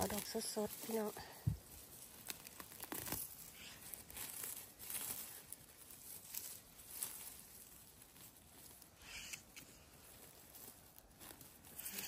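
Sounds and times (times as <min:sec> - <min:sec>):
rustling on forest floor: 0:00.0 - 0:12.0.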